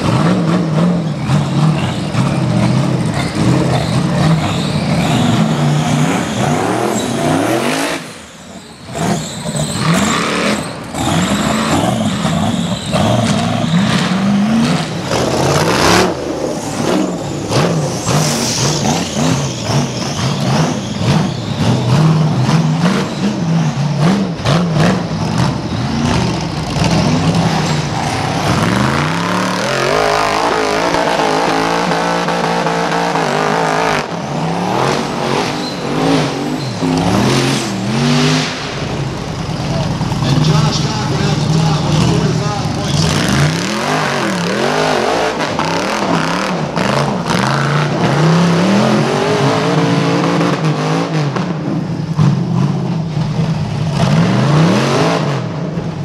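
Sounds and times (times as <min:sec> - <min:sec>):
buggy engine revving hard: 0:00.0 - 0:56.0.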